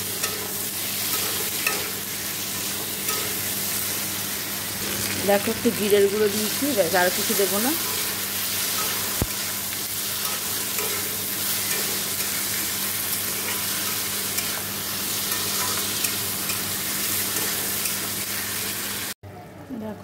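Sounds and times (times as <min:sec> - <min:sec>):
food sizzling in hot oil: 0:00.0 - 0:19.2.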